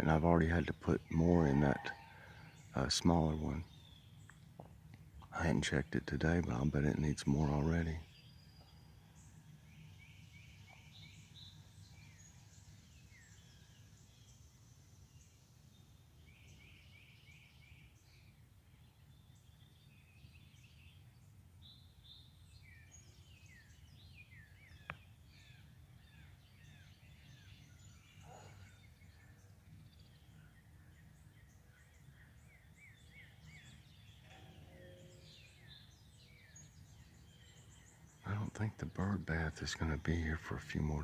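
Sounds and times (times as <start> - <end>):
faint songbirds chirping: 0.0 - 41.0.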